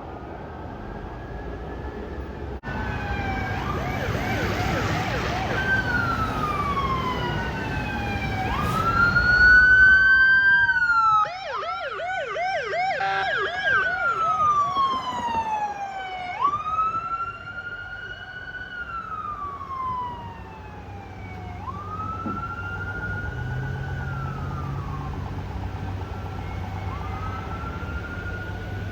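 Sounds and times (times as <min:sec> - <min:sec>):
low vehicle rumble: 0:00.0 - 0:11.2, 0:13.6 - 0:28.9
police siren wailing: 0:00.0 - 0:28.9
siren rapid yelp: 0:02.6 - 0:28.9.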